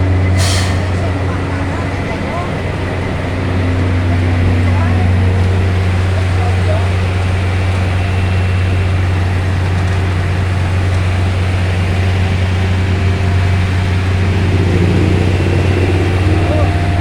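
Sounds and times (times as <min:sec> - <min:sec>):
diesel engines running: 0:00.0 - 0:17.0.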